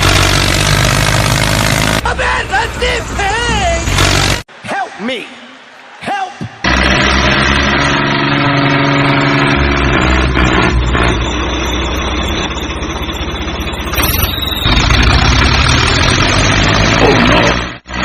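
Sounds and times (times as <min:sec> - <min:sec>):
tractor engine running: 0:00.0 - 0:04.5, 0:06.7 - 0:18.0.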